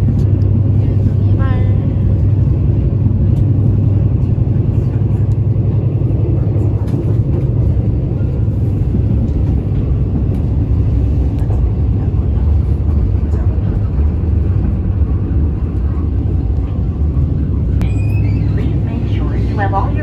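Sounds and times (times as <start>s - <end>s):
train rumble from inside carriage: 0.0s - 20.0s.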